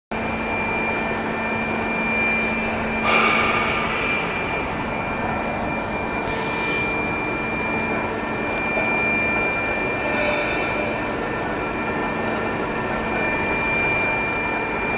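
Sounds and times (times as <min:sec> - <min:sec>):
machinery high whine: 0:00.2 - 0:14.9
machinery low hum: 0:00.2 - 0:14.9.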